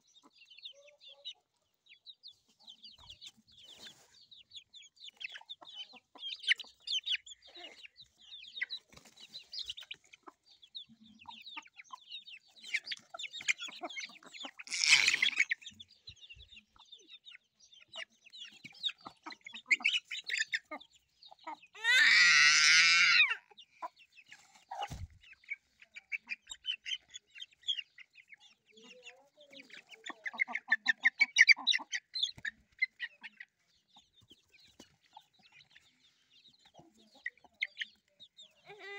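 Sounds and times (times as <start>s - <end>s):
chicks peeping: 0.0s - 38.9s
hens clucking: 0.0s - 38.9s.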